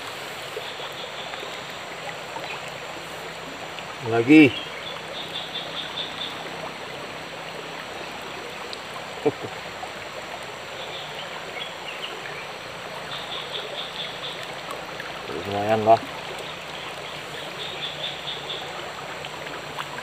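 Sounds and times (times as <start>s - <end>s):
stream trickling: 0.0s - 20.0s.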